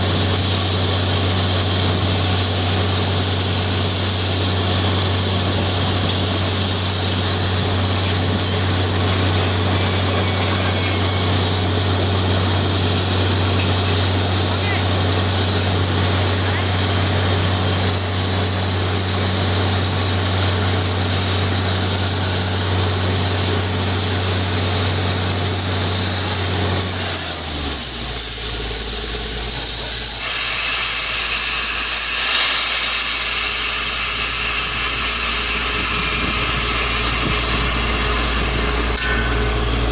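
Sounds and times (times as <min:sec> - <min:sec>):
drilling rig engine hum: 0:00.0 - 0:39.9
high air hiss: 0:00.0 - 0:39.9.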